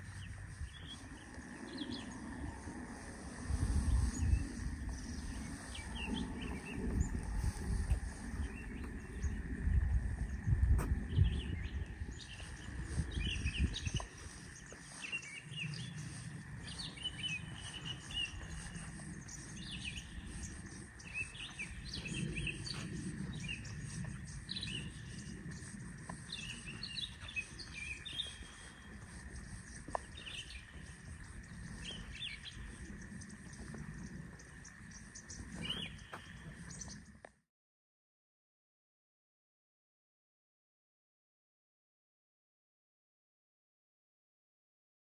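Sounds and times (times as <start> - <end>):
low rumble: 0.0 - 14.8, 15.5 - 37.0
small birds chirping: 0.0 - 37.4.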